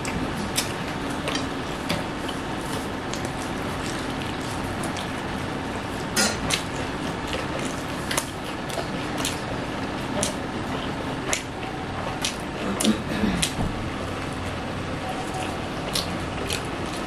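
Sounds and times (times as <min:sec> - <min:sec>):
people chewing and eating: 0:00.0 - 0:17.0
steady background noise: 0:00.0 - 0:17.0.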